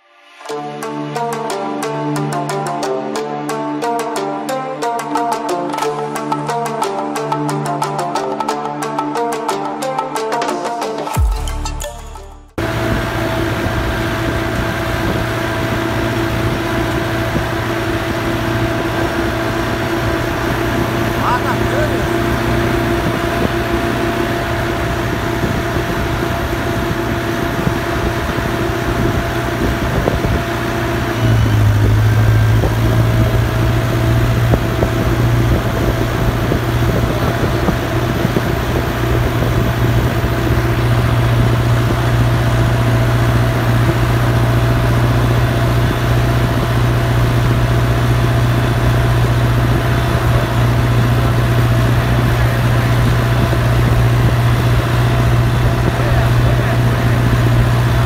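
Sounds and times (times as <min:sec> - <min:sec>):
tractor diesel engine running: 0:11.2 - 0:58.0.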